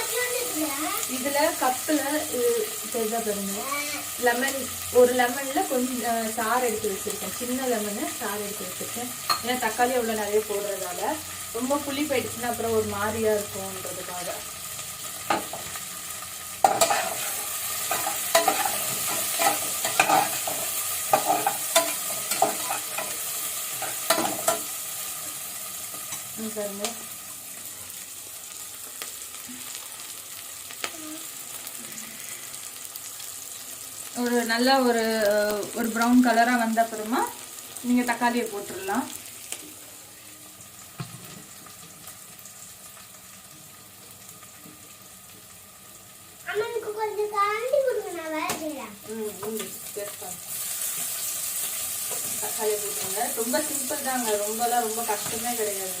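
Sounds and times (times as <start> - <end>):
onions sizzling in oil: 0.0 - 56.0.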